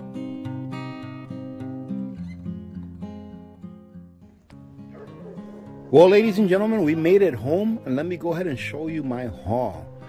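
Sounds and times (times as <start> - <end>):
strummed acoustic guitar: 0.0 - 8.3.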